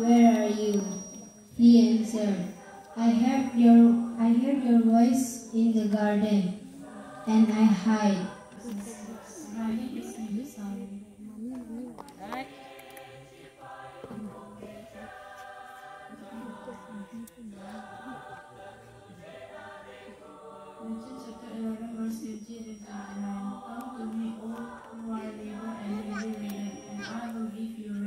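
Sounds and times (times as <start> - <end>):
voices singing together: 0.0 - 28.0.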